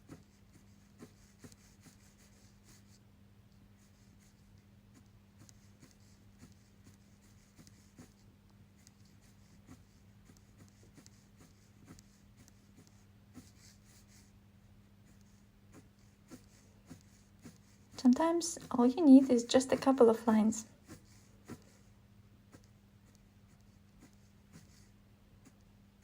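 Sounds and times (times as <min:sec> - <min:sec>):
pen scratching on paper: 0:00.0 - 0:03.0, 0:03.8 - 0:14.3, 0:15.0 - 0:21.9, 0:22.5 - 0:25.6
low electrical hum: 0:00.0 - 0:26.0.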